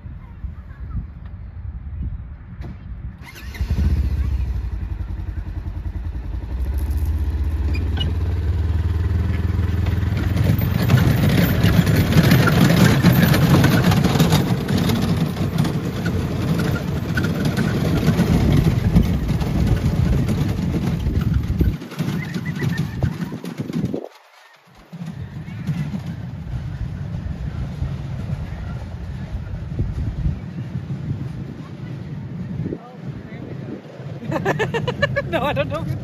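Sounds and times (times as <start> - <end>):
barrel cars rumbling and rattling: 2.6 - 36.0
utility vehicle engine idling: 3.2 - 36.0.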